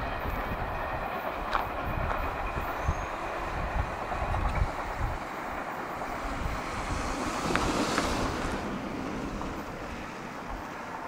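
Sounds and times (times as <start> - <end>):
wind on microphone: 0.0 - 10.8
train wheels on track: 0.0 - 11.0.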